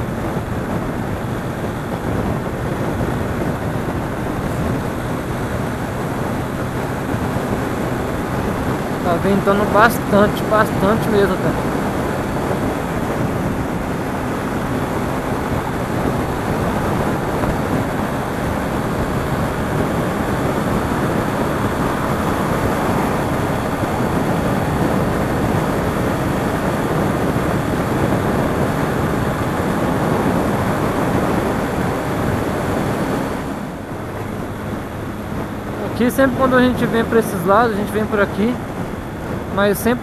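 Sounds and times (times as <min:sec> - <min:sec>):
motorcycle engine: 0:00.0 - 0:40.0
road noise: 0:00.0 - 0:40.0
wind rushing over microphone: 0:00.0 - 0:40.0.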